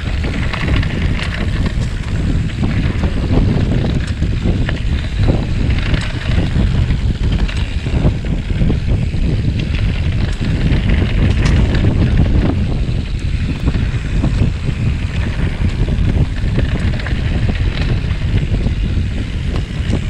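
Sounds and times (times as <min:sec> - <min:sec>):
bike rolling over rough ground: 0:00.0 - 0:20.0
short clicks and rattles: 0:00.0 - 0:20.0
wind buffeting microphone: 0:00.0 - 0:20.0.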